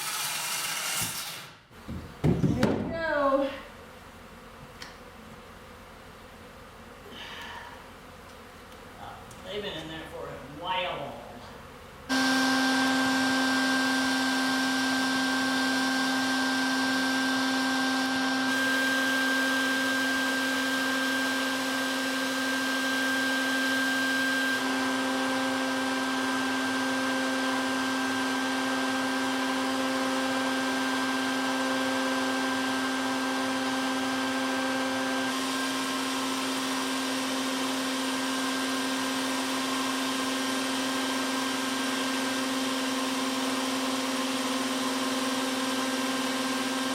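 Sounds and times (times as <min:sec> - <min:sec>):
vacuum motor hum: 0:01.7 - 0:10.1, 0:11.4 - 0:46.9.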